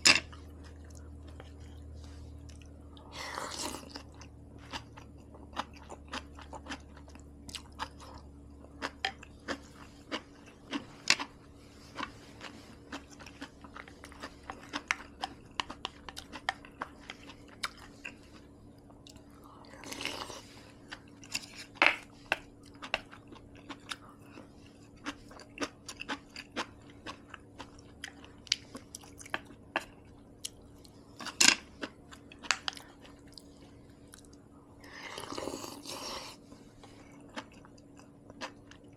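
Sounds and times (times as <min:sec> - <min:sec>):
food crunching: 0:00.0 - 0:38.9
close-miked chewing: 0:00.2 - 0:38.9.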